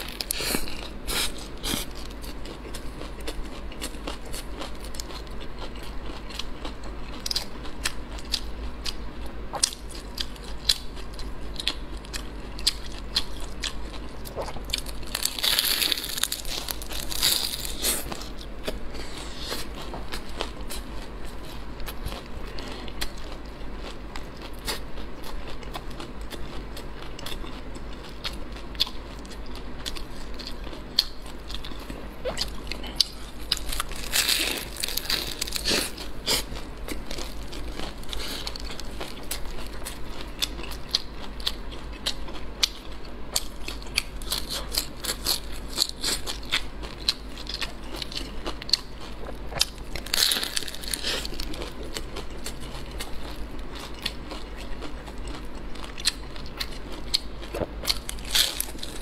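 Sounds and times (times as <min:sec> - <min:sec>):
crunching pastry crust: 0:00.0 - 0:59.0.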